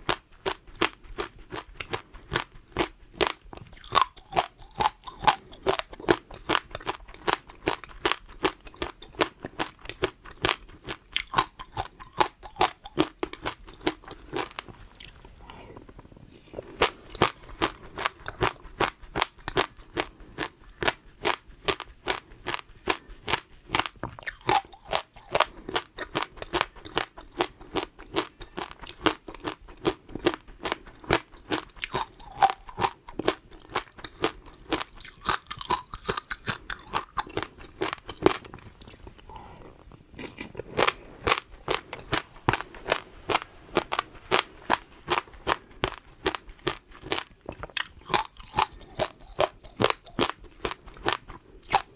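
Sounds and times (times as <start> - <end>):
crunchy food chewing: 0.0 - 51.9.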